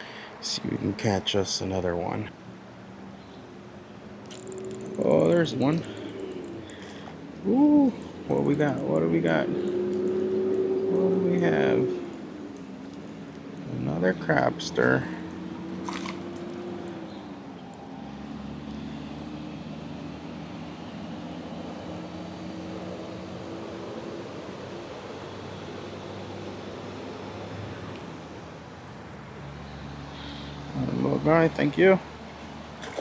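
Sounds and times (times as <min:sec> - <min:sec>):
engine drone: 0:02.4 - 0:33.0.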